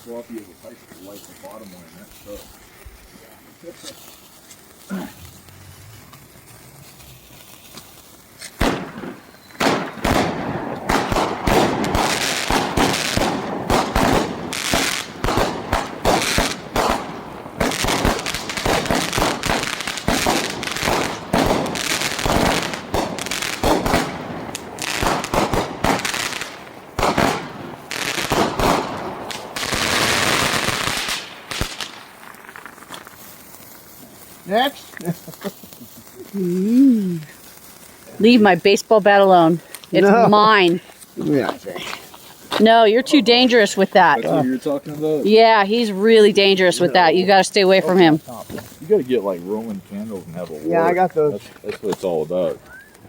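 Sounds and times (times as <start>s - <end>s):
firecrackers banging: 0.0s - 53.0s.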